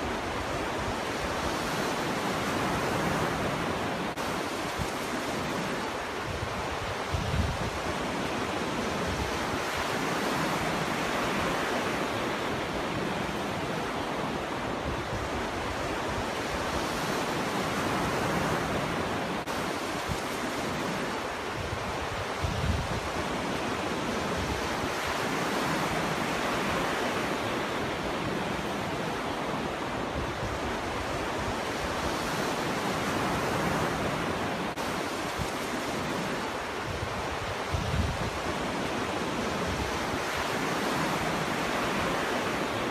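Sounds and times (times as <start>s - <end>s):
wind buffeting microphone: 0.0s - 12.0s, 14.2s - 26.8s, 29.5s - 42.9s
ocean waves breaking: 0.0s - 42.9s.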